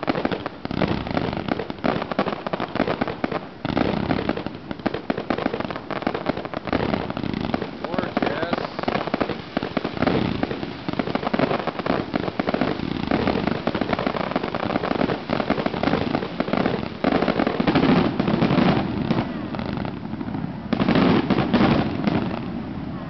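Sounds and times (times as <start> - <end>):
fireworks popping and crackling: 0.0 - 22.9.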